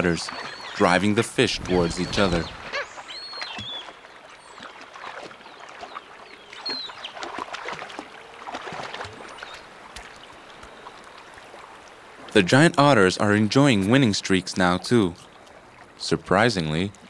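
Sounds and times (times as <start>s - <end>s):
water splashing and churning: 0.0s - 17.0s.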